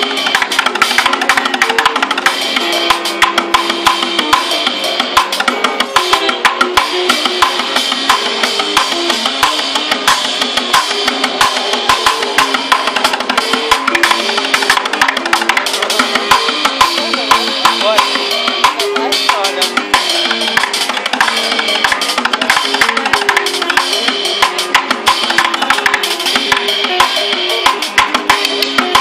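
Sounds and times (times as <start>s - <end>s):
bucket drums: 0.0s - 29.0s.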